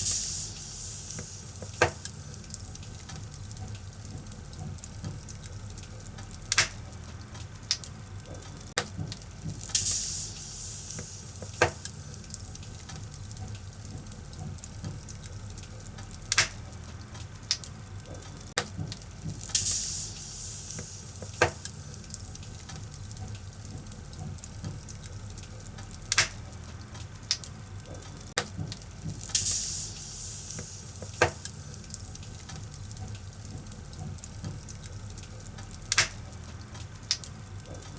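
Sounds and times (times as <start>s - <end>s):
fire hissing: 0.0s - 7.5s, 8.1s - 37.9s
firewood crackling and popping: 0.0s - 37.9s.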